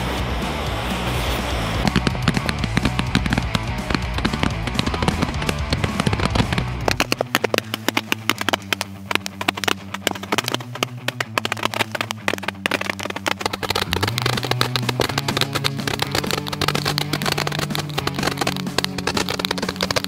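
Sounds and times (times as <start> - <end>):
steady low tones: 0.0 - 20.0
roman candles crackling: 1.0 - 20.0.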